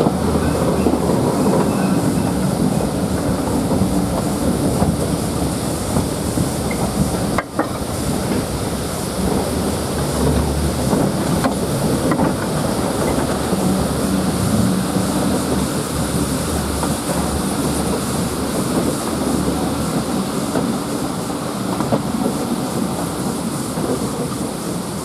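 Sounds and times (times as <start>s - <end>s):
carriage wheels rumbling on track: 0.0s - 21.0s.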